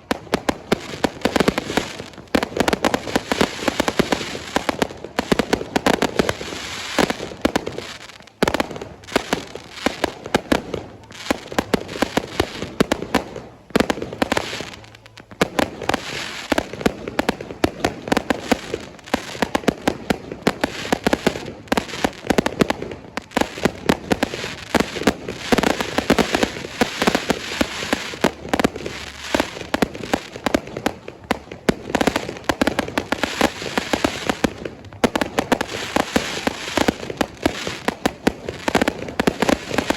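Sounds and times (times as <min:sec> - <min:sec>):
fireworks cracking and banging: 0:00.0 - 0:39.9.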